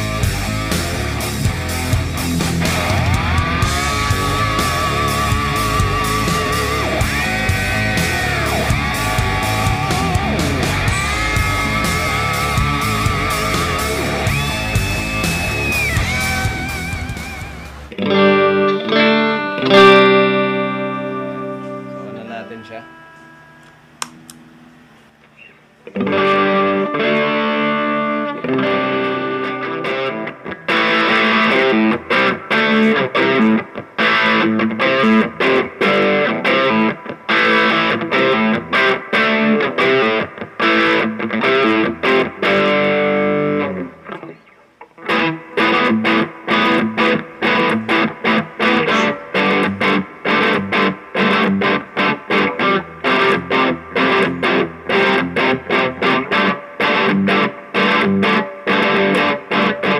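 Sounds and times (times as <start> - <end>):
distorted electric guitar: 0.0 - 59.9.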